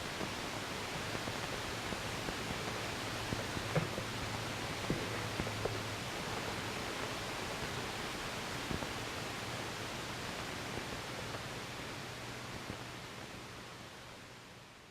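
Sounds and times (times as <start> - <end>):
old film soundtrack hiss: 0.0 - 14.9.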